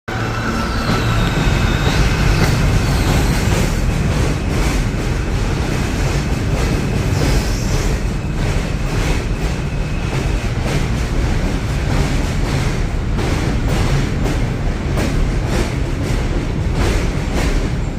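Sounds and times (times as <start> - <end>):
train rumble: 0.1 - 17.9.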